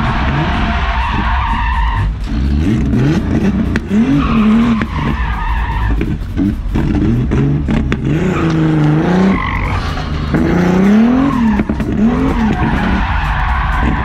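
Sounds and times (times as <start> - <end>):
car engine revving hard: 0.0 - 14.0
tires skidding: 0.0 - 14.0.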